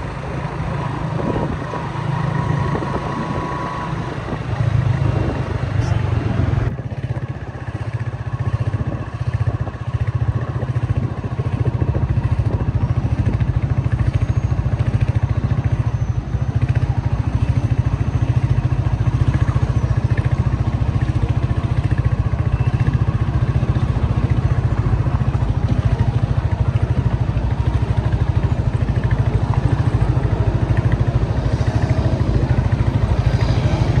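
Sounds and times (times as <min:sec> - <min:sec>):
road noise: 0:00.0 - 0:34.0
vehicle engine running: 0:00.0 - 0:34.0.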